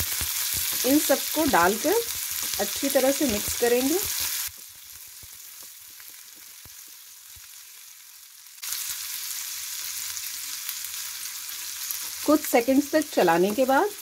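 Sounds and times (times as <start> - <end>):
onions and spices sizzling in oil: 0.0 - 14.0.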